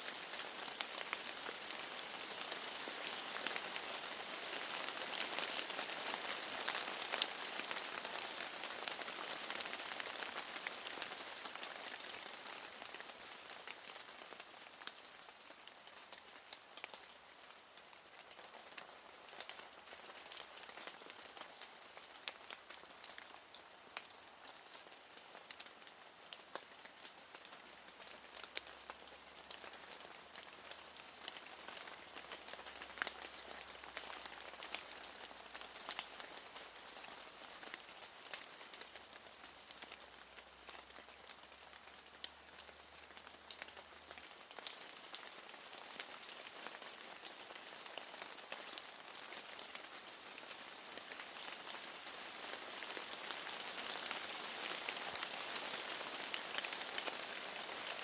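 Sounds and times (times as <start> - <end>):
steady rain falling: 0.0 - 58.0
raindrops ticking: 0.1 - 58.0.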